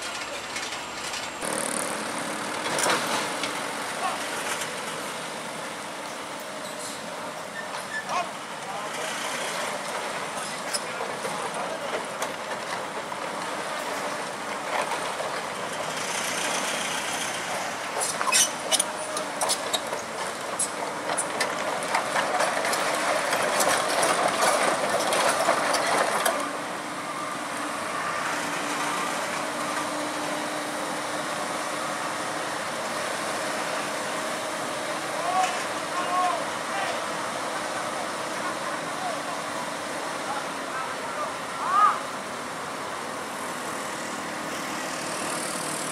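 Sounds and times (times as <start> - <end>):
heavy machinery engine: 0.0 - 45.9.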